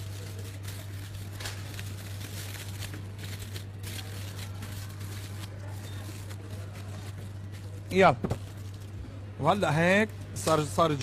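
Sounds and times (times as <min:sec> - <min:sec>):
aluminium foil crinkling: 0:00.0 - 0:09.0.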